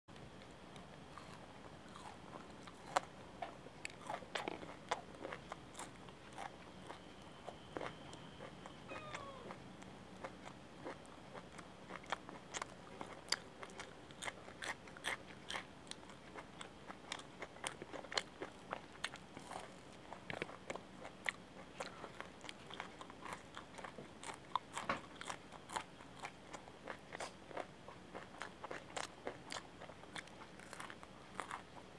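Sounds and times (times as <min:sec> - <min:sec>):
crunching and chewing: 0:00.2 - 0:31.9.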